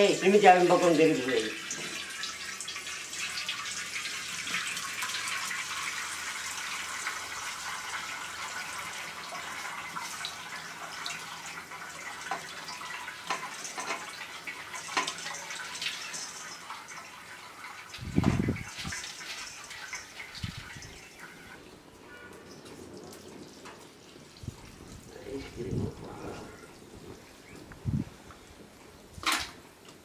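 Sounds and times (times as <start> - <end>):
liquid trickling into metal colander: 0.0 - 25.8.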